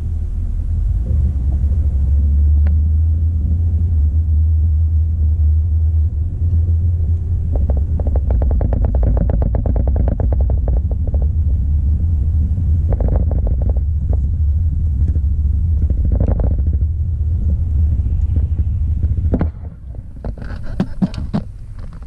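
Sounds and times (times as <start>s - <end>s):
vehicle interior road rumble: 0.0s - 22.0s.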